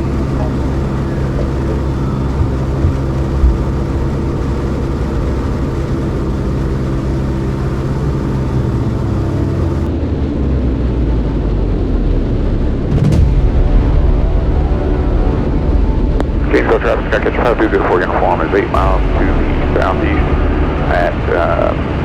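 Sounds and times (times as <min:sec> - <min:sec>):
airplane engine droning: 0:00.0 - 0:22.0.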